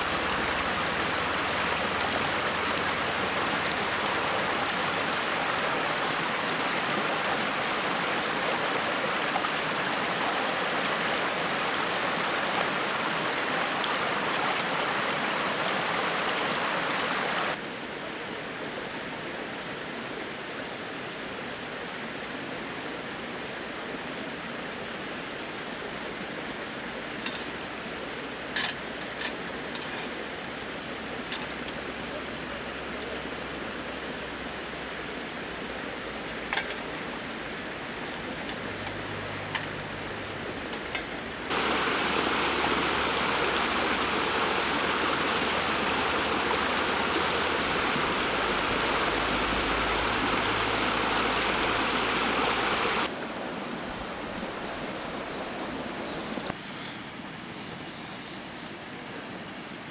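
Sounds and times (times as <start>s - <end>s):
stream rushing over stones: 0.0s - 57.8s
steady hiss: 0.0s - 59.9s.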